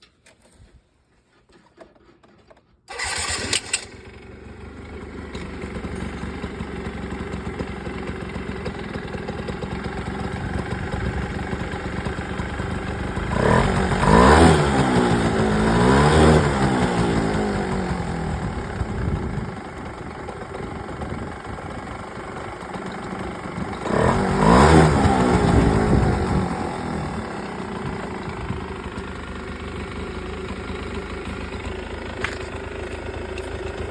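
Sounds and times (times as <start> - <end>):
scooter engine starting and revving: 1.8 - 33.9.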